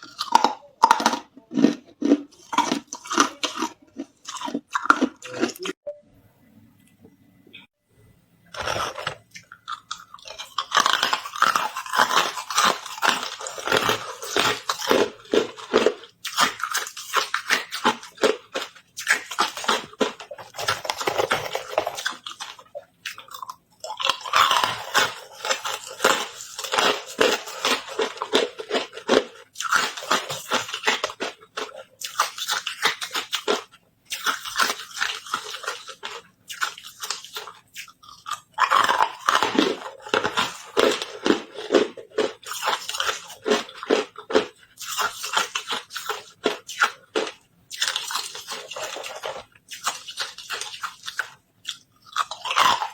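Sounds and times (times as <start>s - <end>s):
person crunching ice: 8.6s - 52.9s.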